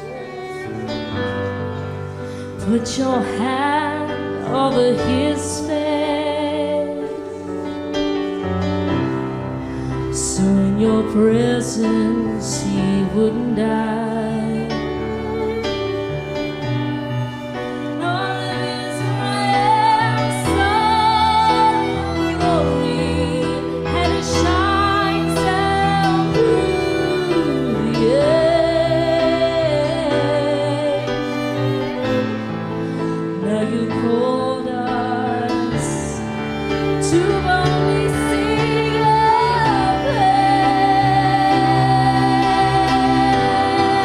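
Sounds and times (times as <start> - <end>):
slow worship music: 0.0 - 44.0.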